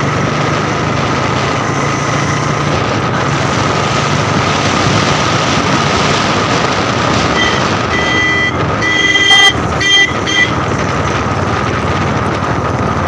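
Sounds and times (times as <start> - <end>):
low engine hum: 0.0 - 13.0
motorcycle running at speed: 0.0 - 13.0
road noise: 0.0 - 13.0
wind rushing: 0.2 - 13.0.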